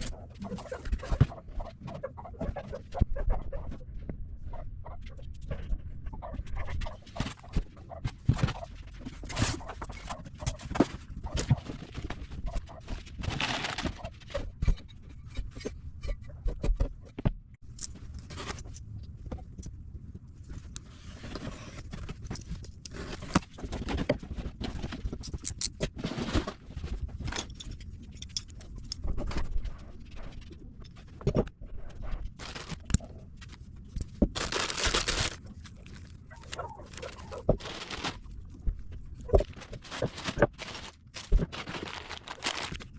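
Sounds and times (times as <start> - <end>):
parts and packaging handled: 6.5 - 42.9.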